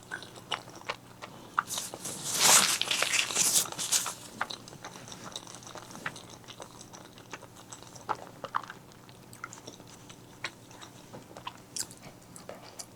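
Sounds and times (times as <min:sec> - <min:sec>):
chewing mouth sounds: 0:00.0 - 0:12.9.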